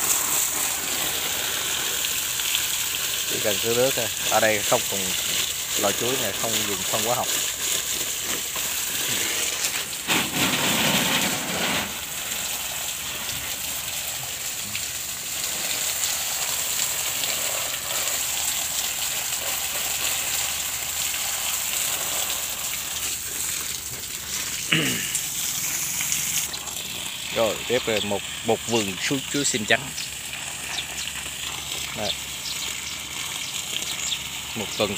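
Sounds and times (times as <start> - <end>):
hose water spraying on plants: 0.0 - 34.9.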